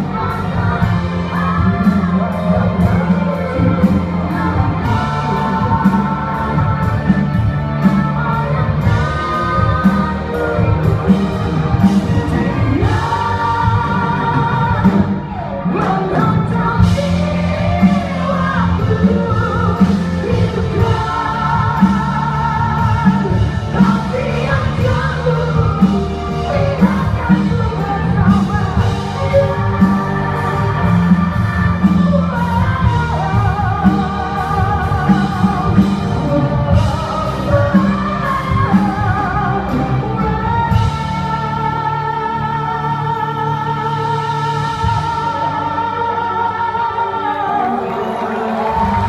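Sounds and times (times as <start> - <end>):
steady drum beat: 0.0 - 41.8
band and orchestra playing pop ballad: 0.0 - 49.0
held melody with vibrato: 0.0 - 49.0.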